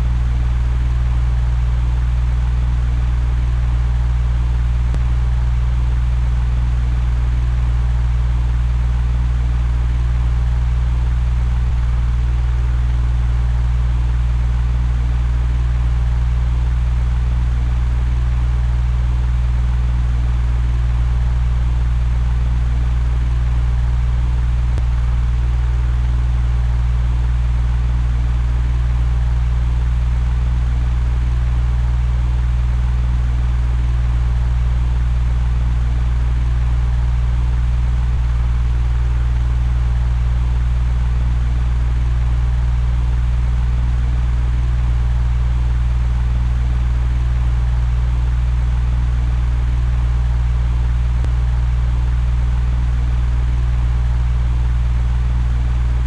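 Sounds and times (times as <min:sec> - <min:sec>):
electric fan humming: 0:00.0 - 0:34.2, 0:35.0 - 0:56.0.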